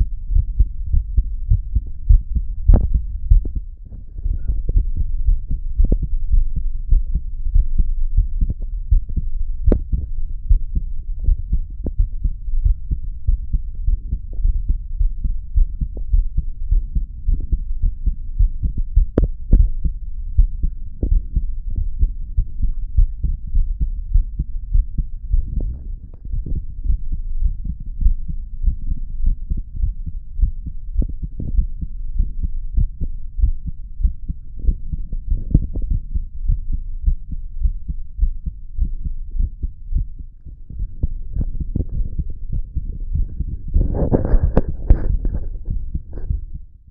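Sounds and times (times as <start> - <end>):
heartbeat through stethoscope: 0.0 - 46.9.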